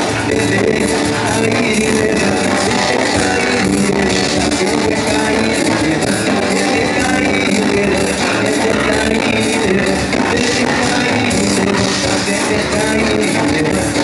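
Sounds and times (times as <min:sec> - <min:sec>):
band playing guitars and drums: 0:00.0 - 0:14.0
man singing: 0:00.0 - 0:14.0.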